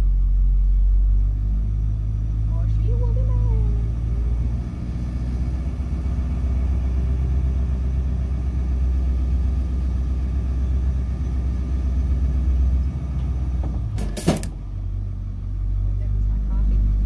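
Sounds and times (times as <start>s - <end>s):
bus engine rumbling: 0.0s - 17.0s.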